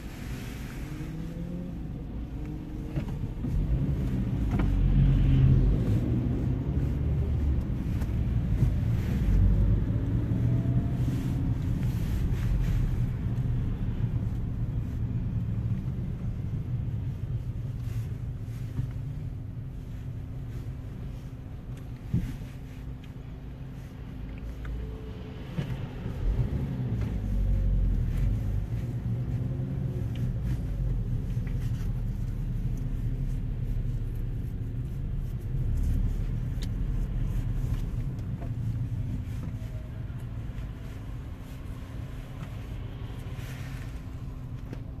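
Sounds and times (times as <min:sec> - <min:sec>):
car engine and road rumble: 0:00.0 - 0:45.0.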